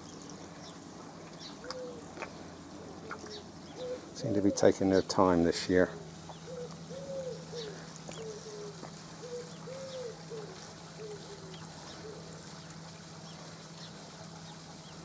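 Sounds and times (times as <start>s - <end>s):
small birds twittering: 0.0s - 15.0s
steady low hum: 0.0s - 15.0s
pigeon cooing: 1.6s - 14.1s.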